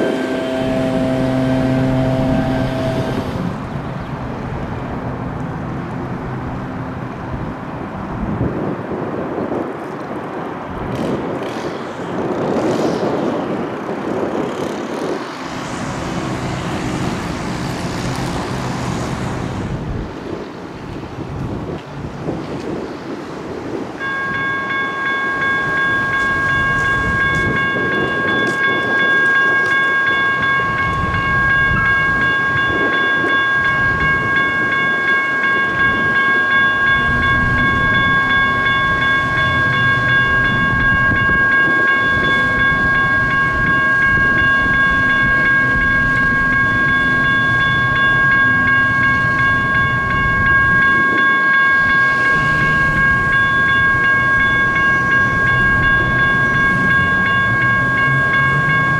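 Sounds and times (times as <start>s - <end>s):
railroad crossing bell ringing: 0.0s - 3.8s, 10.9s - 20.7s, 23.5s - 58.9s
train rumbling on track: 0.0s - 58.9s.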